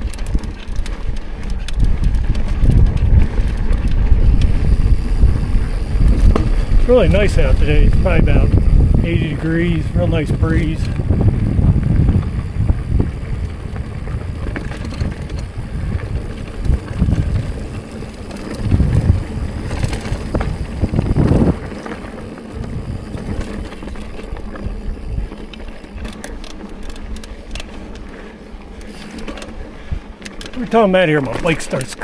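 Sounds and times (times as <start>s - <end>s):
bike crank clicking: 0.0s - 32.0s
bike tyres rumbling over rock: 0.0s - 32.0s
wind buffeting microphone: 0.0s - 32.0s.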